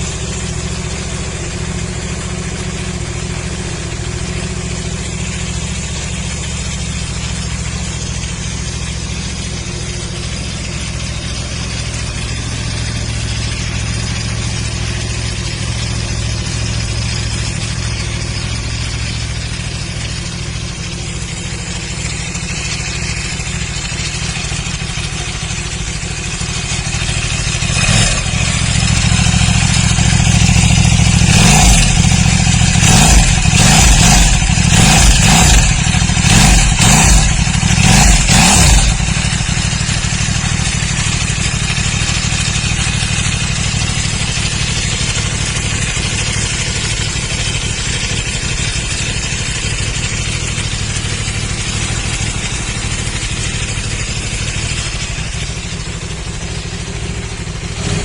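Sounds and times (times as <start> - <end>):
motorcycle engine idling: 0.0 - 58.0
engine throttle blips: 4.7 - 58.0.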